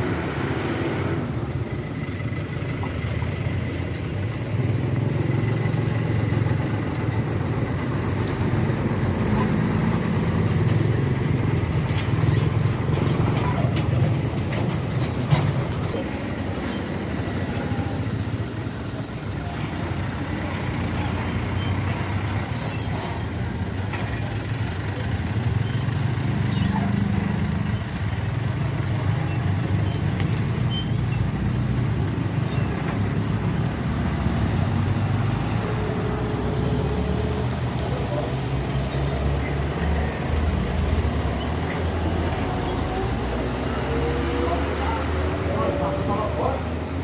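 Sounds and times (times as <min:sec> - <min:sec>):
heavy truck diesel engines: 0:00.0 - 0:47.0.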